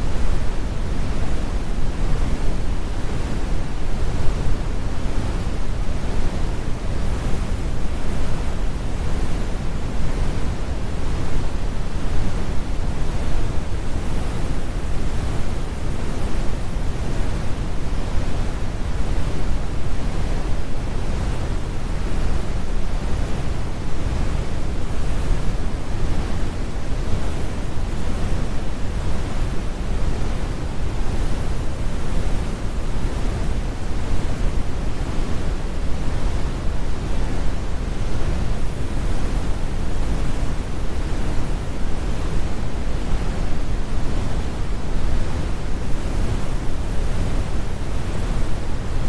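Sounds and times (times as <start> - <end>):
brown noise: 0.0 - 49.0.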